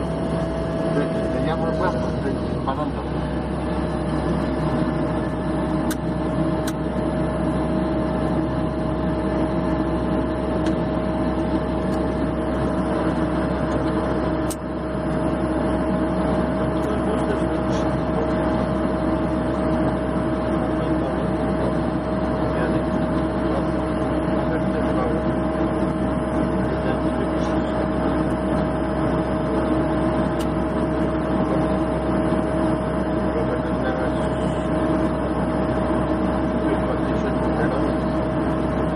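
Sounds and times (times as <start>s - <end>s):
turboprop engine whine and drone: 0.0s - 38.9s.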